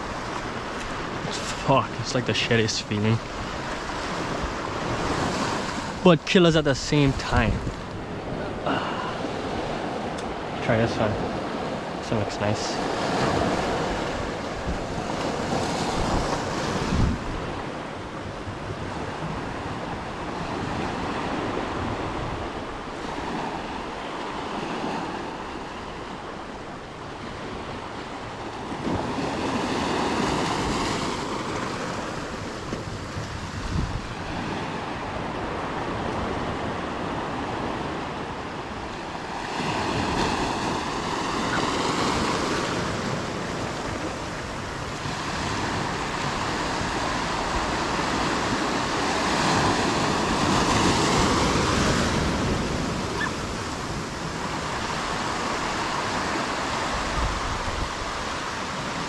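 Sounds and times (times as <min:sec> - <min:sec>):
ocean waves washing over rocks: 0:00.0 - 0:59.0.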